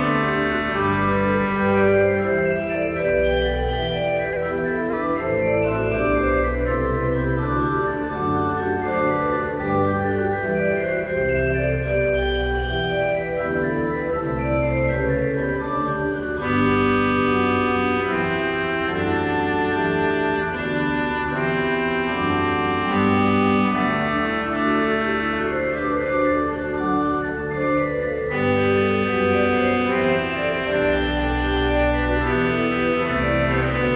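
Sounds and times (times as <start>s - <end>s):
organ chords: 0.0s - 33.9s.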